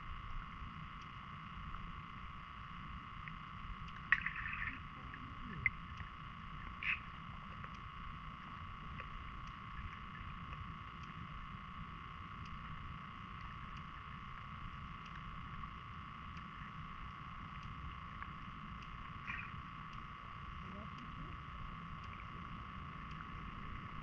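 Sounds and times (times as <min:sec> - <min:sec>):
high-pitched whine: 0:00.0 - 0:24.0
underwater rumble of moving water: 0:00.0 - 0:24.0
faint ticks: 0:00.1 - 0:24.0.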